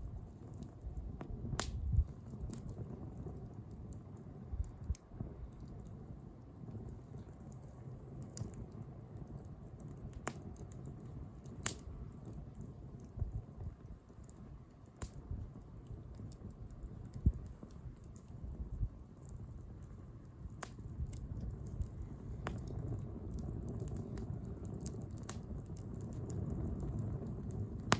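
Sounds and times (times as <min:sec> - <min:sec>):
bonfire flame rumble: 0:00.0 - 0:27.9
burning wood crackling: 0:00.0 - 0:27.9.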